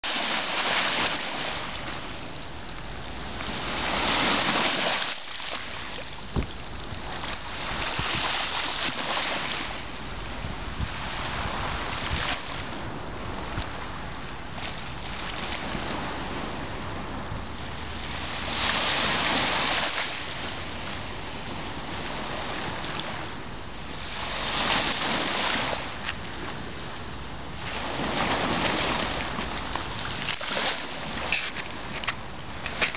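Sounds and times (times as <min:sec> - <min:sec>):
small waves washing up a beach: 0:00.0 - 0:32.9.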